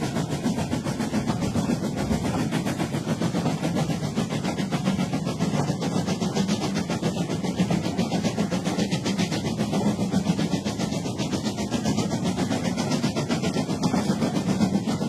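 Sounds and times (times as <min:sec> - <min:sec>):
train running hum: 0:00.0 - 0:15.0
wheels clicking over rail joints: 0:00.0 - 0:15.0.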